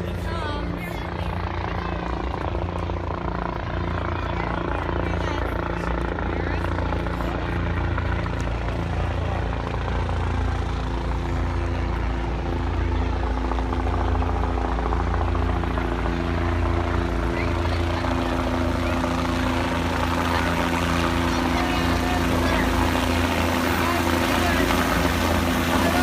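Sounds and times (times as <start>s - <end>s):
helicopter rotor and engine drone: 0.0s - 26.0s.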